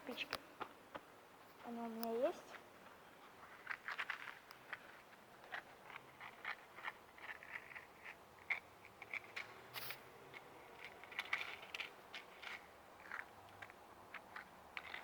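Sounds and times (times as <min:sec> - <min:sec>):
dry clicks and crackles: 0:00.1 - 0:15.0.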